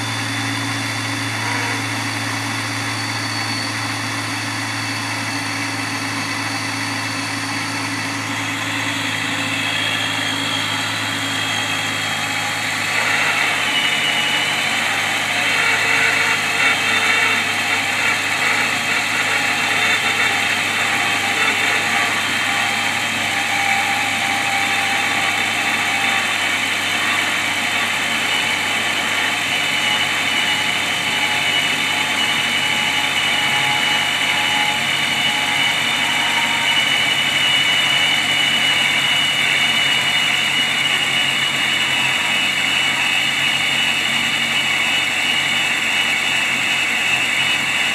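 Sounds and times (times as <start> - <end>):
car engine idling: 0.0 - 47.9
high whine: 0.0 - 47.9.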